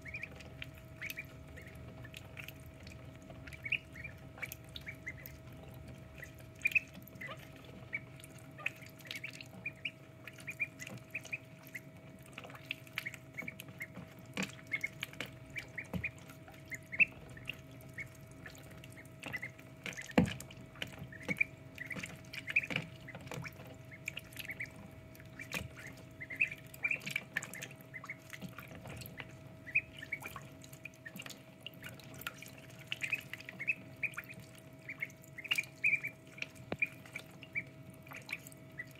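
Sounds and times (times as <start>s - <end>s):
ducklings peeping: 0.0s - 38.9s
small water splashes and drips: 0.0s - 38.9s.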